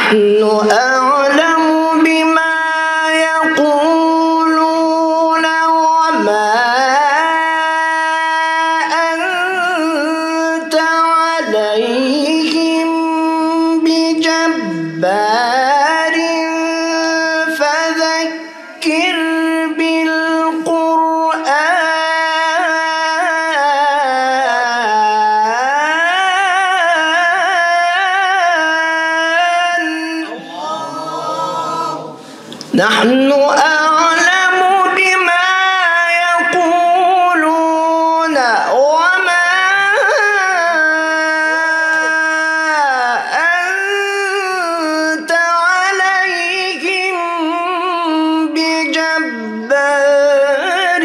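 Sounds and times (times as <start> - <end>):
man chanting melodically: 0.0 - 51.0.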